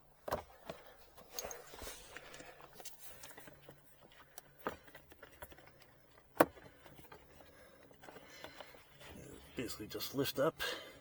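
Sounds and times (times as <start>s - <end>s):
faint handling noises: 0.1s - 9.9s.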